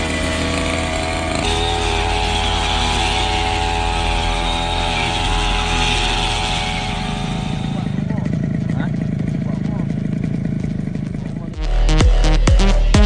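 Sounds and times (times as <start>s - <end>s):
grass cutter engine running: 0.0s - 13.0s.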